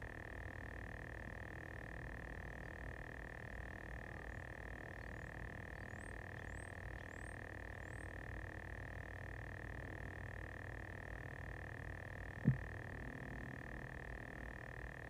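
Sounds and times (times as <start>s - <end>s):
frogs chorus: 0.0s - 15.0s.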